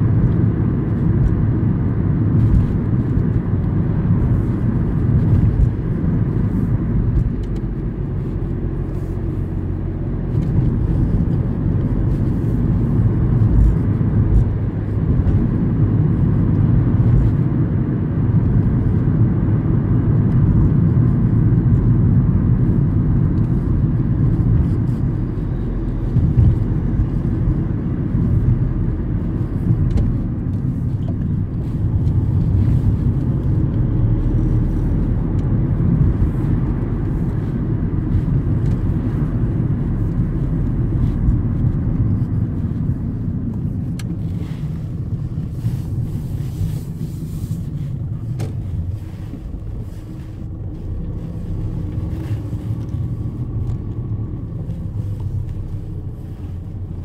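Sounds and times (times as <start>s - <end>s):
car interior engine and road rumble: 0.0s - 57.0s.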